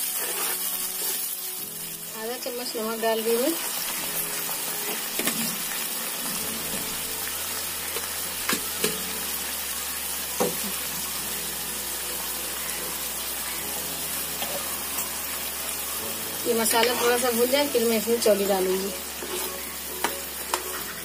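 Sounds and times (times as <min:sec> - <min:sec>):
sauce bubbling and sizzling: 0:00.0 - 0:21.0.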